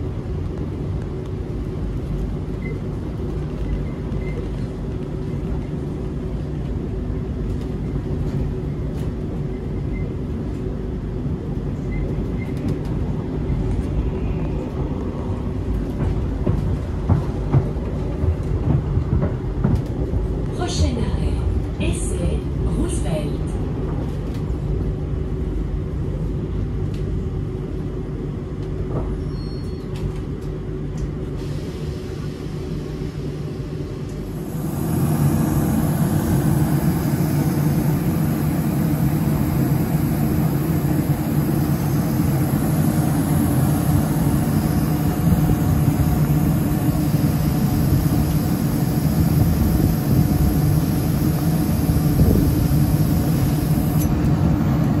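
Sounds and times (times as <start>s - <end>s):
tram hum and rumble: 0.0s - 55.0s
tram rumble inside car: 0.0s - 55.0s.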